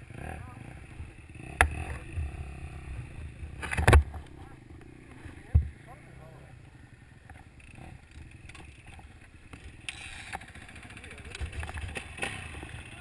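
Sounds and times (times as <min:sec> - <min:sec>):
motocross bike engine: 0:00.0 - 0:13.0.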